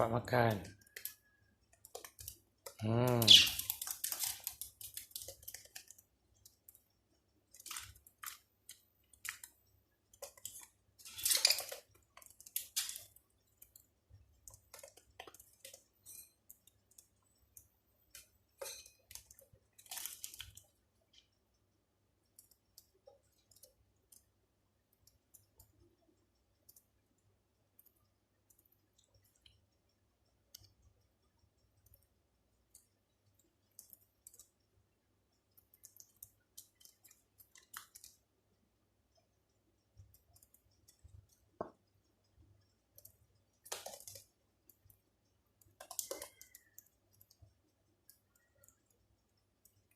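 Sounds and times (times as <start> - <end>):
beaks clicking and crunching food: 0.6 - 49.9.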